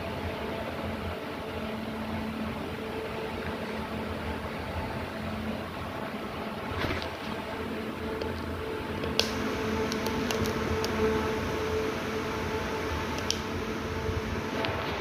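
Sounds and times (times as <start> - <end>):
electric fan whooshing: 0.0 - 15.0
faint hum: 0.0 - 15.0.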